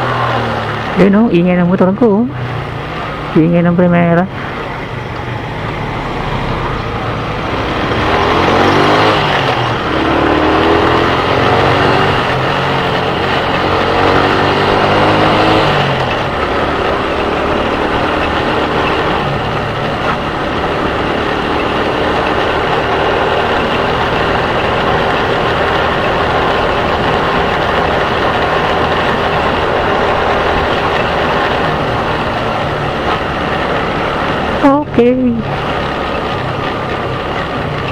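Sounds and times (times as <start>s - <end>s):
motorcycle engine pulling away: 0.0s - 3.4s, 4.3s - 37.9s.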